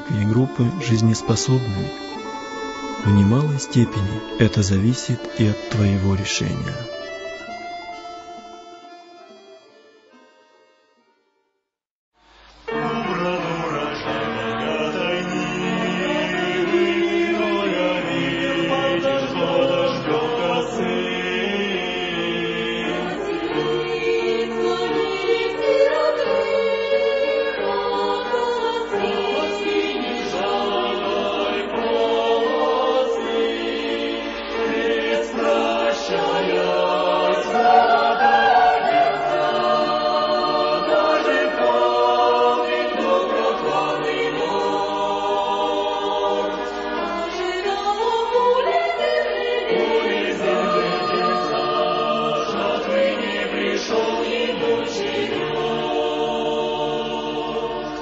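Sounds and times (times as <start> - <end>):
choir singing: 0.0 - 9.6, 12.7 - 58.0.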